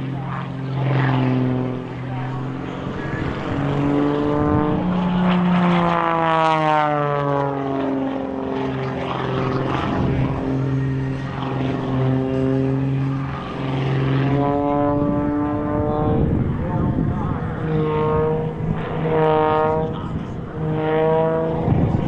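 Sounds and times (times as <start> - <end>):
aircraft passing by: 0.0 - 22.0
propeller airplane engines droning: 0.0 - 22.0.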